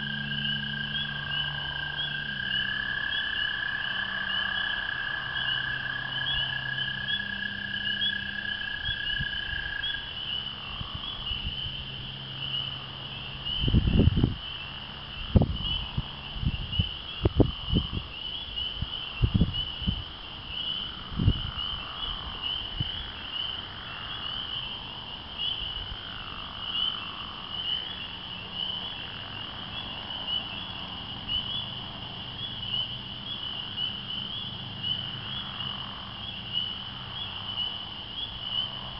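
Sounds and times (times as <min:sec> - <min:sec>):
spring peepers chorus: 0:00.0 - 0:38.9.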